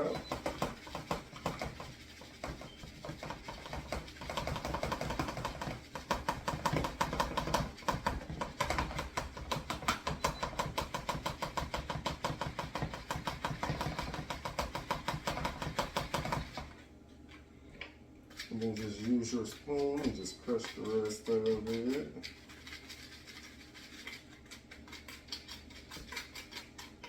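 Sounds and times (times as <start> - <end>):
utensil clicking through dry flour: 0.0 - 16.8, 18.3 - 27.0.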